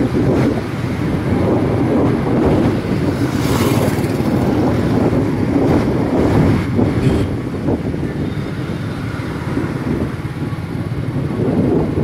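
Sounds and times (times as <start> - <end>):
road traffic rumble: 0.0 - 12.0
wind on microphone: 0.0 - 12.0.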